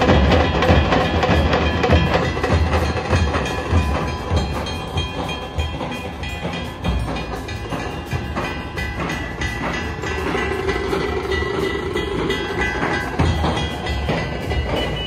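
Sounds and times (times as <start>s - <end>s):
drums beaten with sticks: 0.0s - 15.0s
thin high tones: 2.2s - 15.0s.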